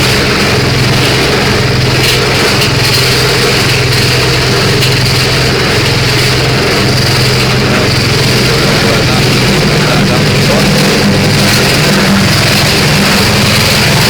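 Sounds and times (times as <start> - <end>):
grass chopper engine droning: 0.0 - 14.0.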